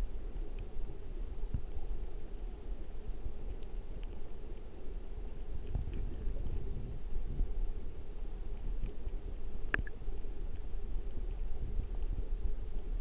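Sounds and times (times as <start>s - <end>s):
muffled underwater stream rumble: 0.0s - 13.0s.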